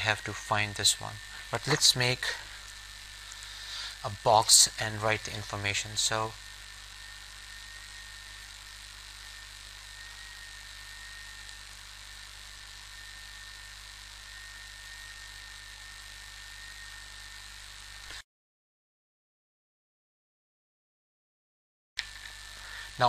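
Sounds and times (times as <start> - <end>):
electrical hum and hiss: 0.0 - 18.2, 22.0 - 23.0
faint high whine: 0.0 - 18.2, 22.0 - 23.0.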